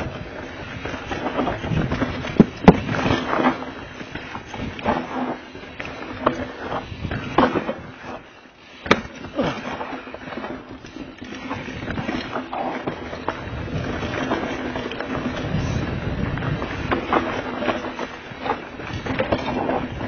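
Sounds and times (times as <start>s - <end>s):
bike knocking over roots: 0.0s - 20.0s
mountain bike rattling: 0.0s - 20.0s.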